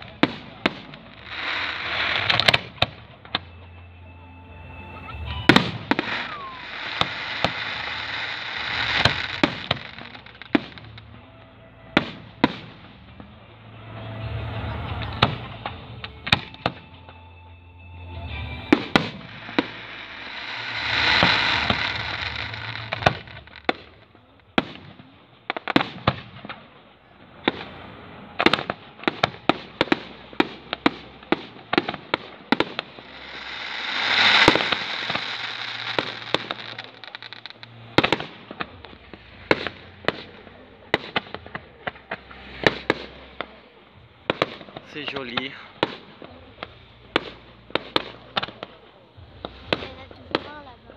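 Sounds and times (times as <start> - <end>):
fireworks hissing: 0.0 - 3.6, 4.8 - 11.2, 18.1 - 50.7
fireworks bangs: 0.0 - 3.8, 5.1 - 17.2, 18.3 - 50.9.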